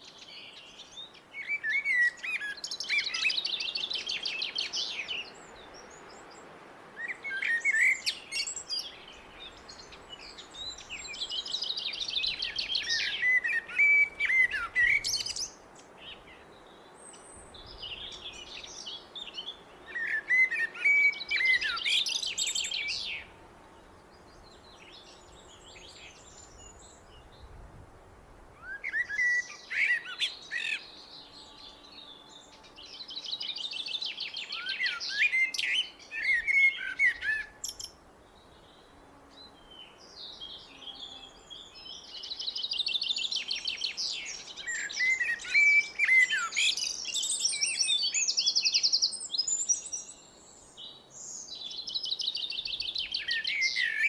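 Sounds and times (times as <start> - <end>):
blackbird singing: 0.0 - 6.2, 7.0 - 23.4, 28.6 - 54.0.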